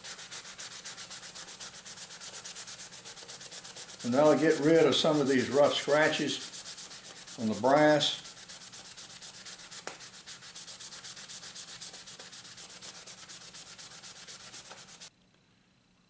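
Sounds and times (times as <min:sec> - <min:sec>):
sanding block rubbing wood: 0:00.0 - 0:15.1.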